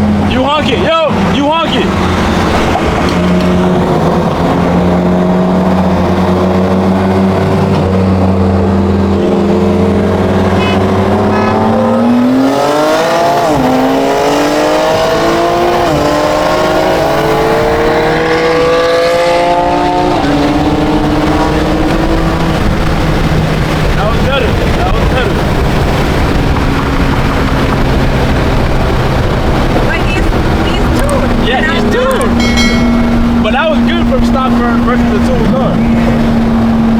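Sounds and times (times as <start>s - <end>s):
car engine revving through gears: 0.0s - 36.9s.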